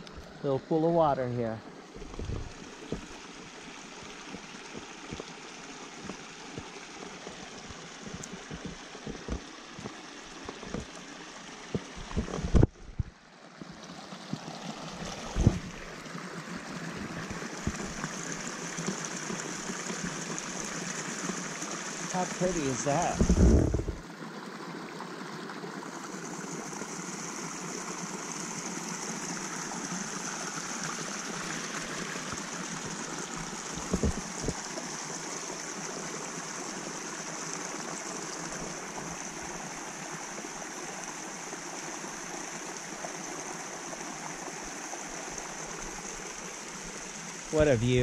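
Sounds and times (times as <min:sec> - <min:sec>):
water rushing down channel: 0:00.0 - 0:48.0.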